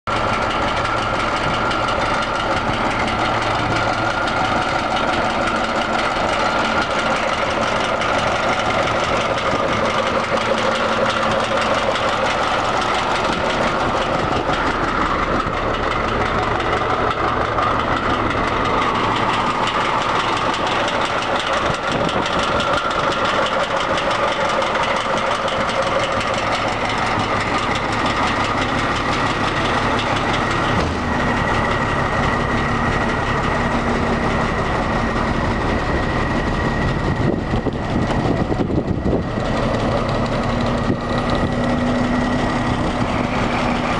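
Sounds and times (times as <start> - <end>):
truck diesel engine idling: 0.1 - 43.9.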